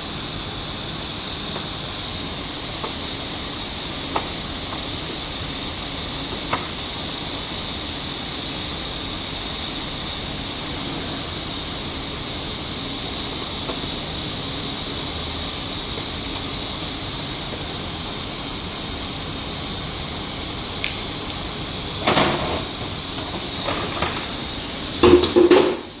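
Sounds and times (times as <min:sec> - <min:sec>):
steady loud hiss: 0:00.0 - 0:26.0.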